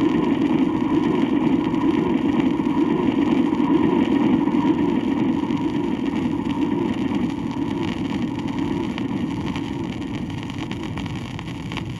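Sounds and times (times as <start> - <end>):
record surface crackle: 0.0 - 11.9.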